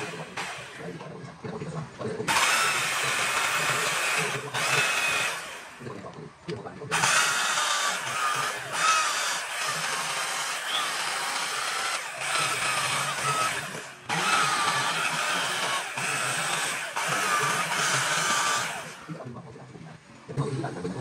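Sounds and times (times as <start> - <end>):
power carving tool grinding wood: 0.0 - 1.0, 2.3 - 6.0, 6.9 - 19.2.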